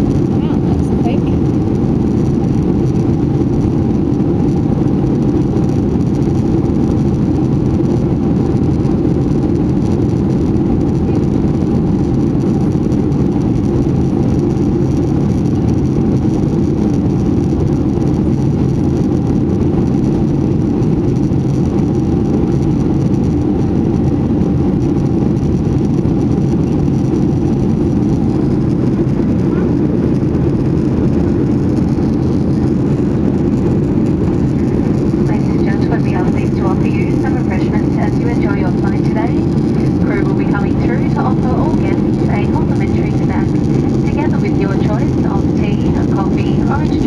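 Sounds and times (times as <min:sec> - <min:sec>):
airplane cabin rumble: 0:00.0 - 0:47.0
faint steady hum: 0:00.0 - 0:47.0.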